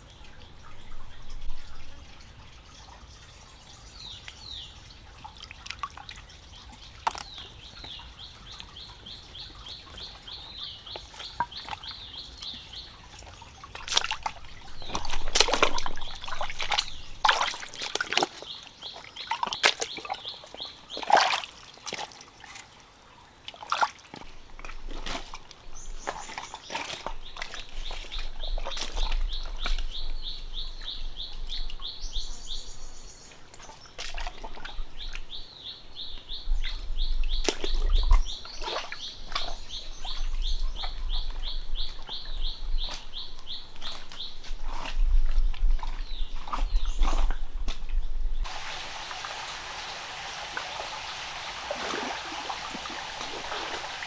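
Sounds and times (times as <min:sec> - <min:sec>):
water splashing in stream: 0:04.0 - 0:32.6, 0:33.2 - 0:35.4, 0:36.5 - 0:54.0.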